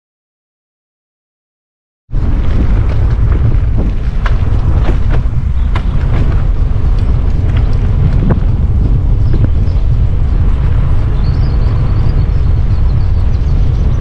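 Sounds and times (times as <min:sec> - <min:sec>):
wind buffeting microphone: 0:02.1 - 0:14.0.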